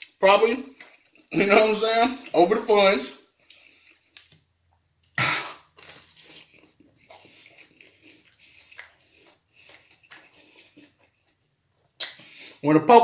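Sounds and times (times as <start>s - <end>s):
person chewing food: 0.0s - 1.5s, 3.3s - 12.6s.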